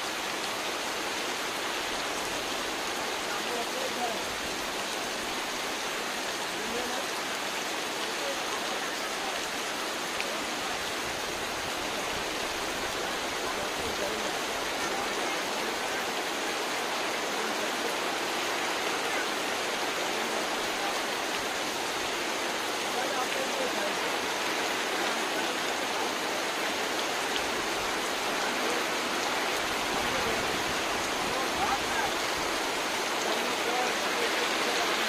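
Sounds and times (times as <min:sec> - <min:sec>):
heavy rain on river water: 0:00.0 - 0:35.0.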